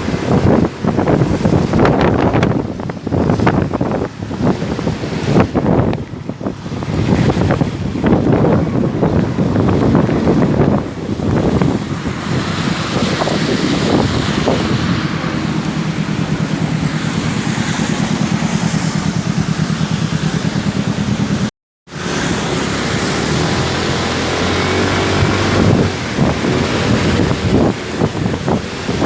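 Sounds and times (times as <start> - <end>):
motorcycle engine running: 0.0 - 29.0
wind rushing over microphone: 0.0 - 29.0.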